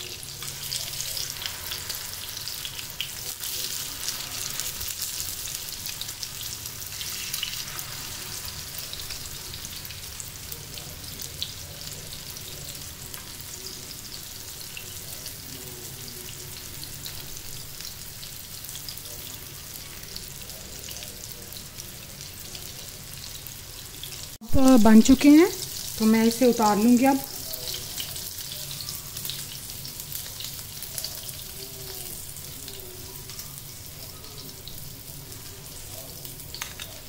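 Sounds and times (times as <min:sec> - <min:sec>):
oil sizzling with crackles and pops: 0:00.0 - 0:37.0.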